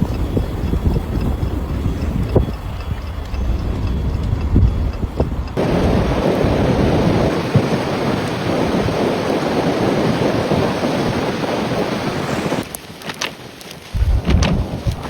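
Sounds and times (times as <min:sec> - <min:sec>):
rushing storm noise: 0:00.0 - 0:15.0.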